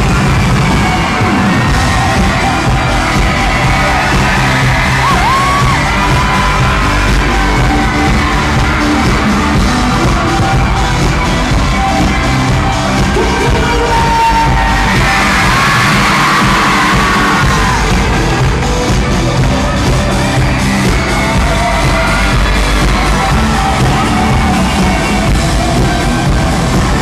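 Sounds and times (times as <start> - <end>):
fans screaming: 0.0 - 27.0
loud live pop music: 0.0 - 27.0.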